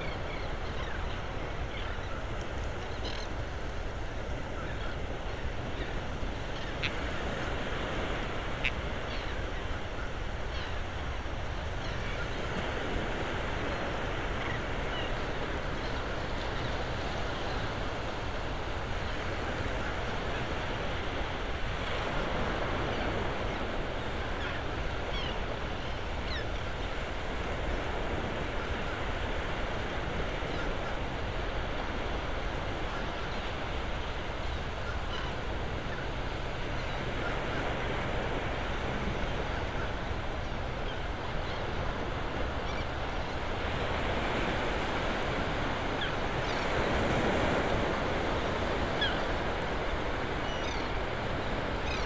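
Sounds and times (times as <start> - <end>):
shorebirds calling: 0.0 - 18.1, 21.8 - 52.0
surf washing on beach: 0.0 - 52.0.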